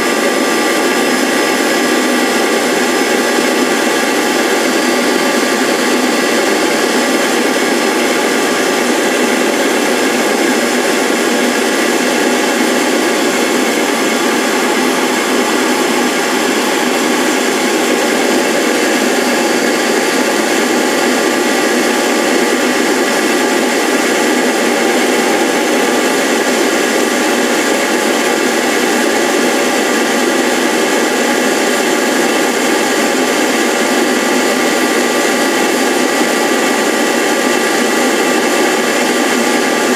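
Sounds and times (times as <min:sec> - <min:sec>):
lathe cutting wood: 0:00.0 - 0:39.9.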